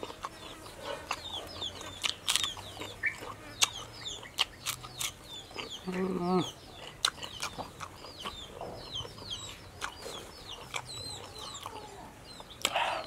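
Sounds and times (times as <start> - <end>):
chickens clucking: 0.0 - 13.0
close-up chewing: 0.0 - 13.0.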